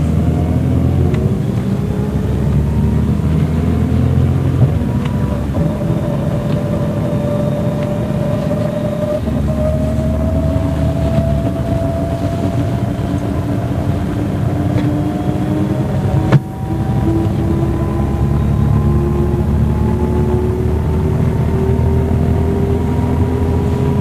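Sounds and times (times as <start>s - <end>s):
diesel bus engine running: 0.0s - 24.0s
engine whine rising in pitch: 0.0s - 24.0s.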